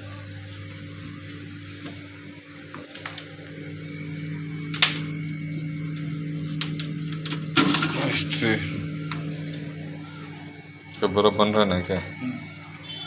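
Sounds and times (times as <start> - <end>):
refrigerator humming: 0.0 - 13.0.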